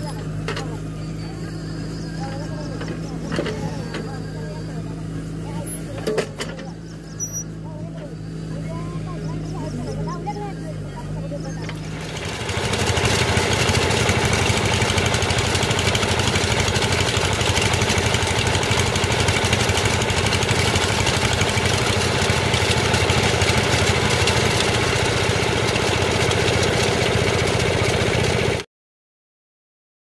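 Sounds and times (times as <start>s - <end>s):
small engine chugging: 0.0s - 28.6s.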